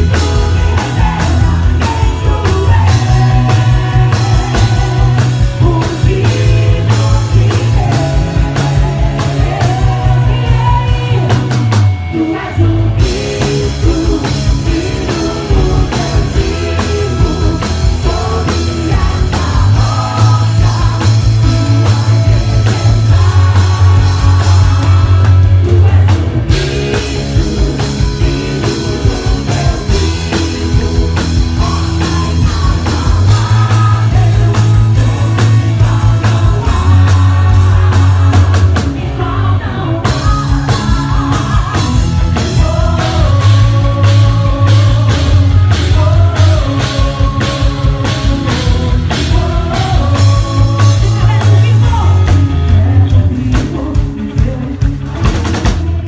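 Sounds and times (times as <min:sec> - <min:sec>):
band playing rock song: 0:00.0 - 0:56.0
driving drum beat: 0:00.0 - 0:56.0.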